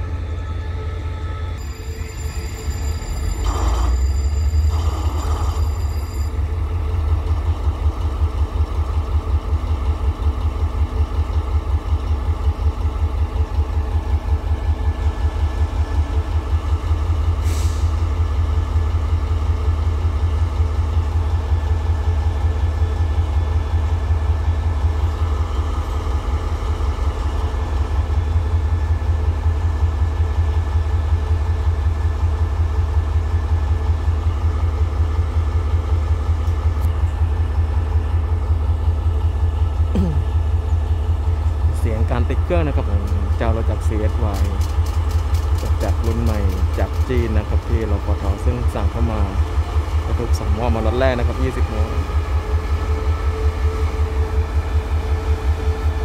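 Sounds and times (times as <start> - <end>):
diesel locomotive idling: 0.0 - 56.0.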